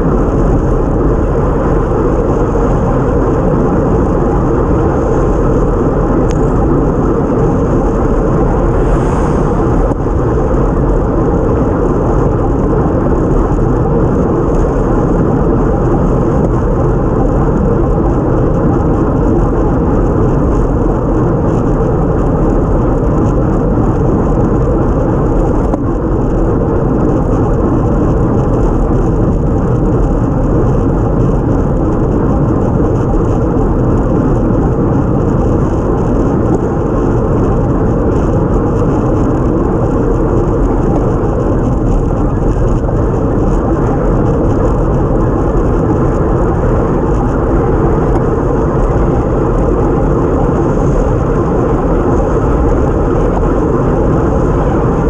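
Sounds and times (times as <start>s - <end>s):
road noise: 0.0s - 55.0s
wind noise: 0.0s - 55.0s.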